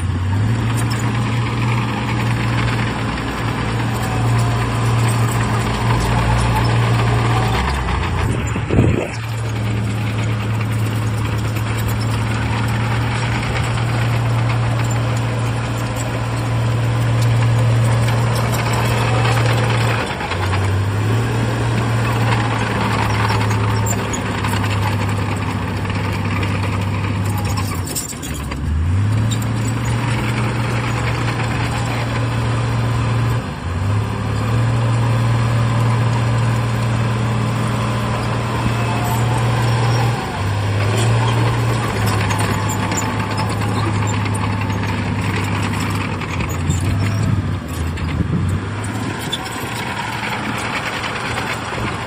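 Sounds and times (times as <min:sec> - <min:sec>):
heavy diesel engine running hard: 0:00.0 - 0:52.0.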